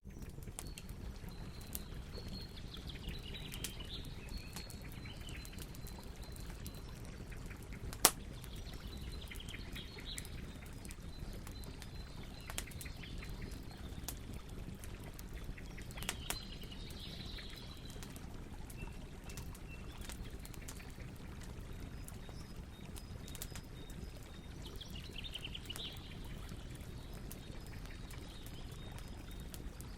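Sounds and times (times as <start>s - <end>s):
campfire crackling: 0.0s - 29.9s.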